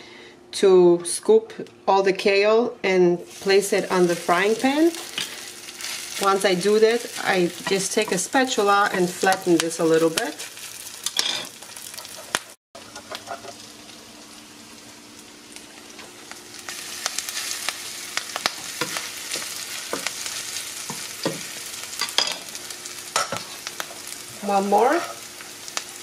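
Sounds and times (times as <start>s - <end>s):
patties sizzling in oil: 3.2s - 26.0s.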